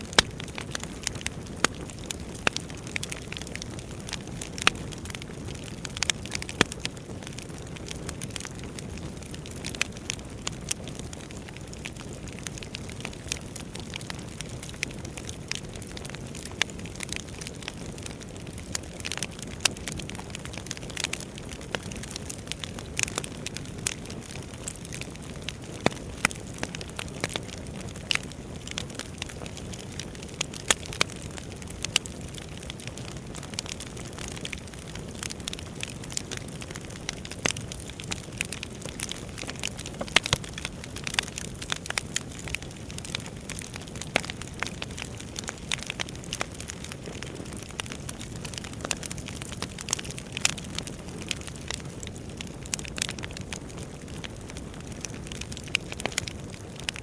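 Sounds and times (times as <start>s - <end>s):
firewood crackling and popping: 0.0s - 57.0s
low rumble of flame: 0.0s - 57.0s.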